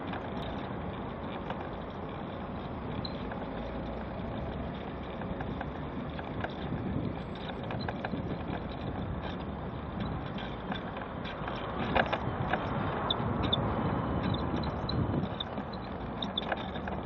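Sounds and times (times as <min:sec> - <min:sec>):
mobility scooter rattling: 0:00.0 - 0:17.0
road traffic: 0:00.0 - 0:17.0.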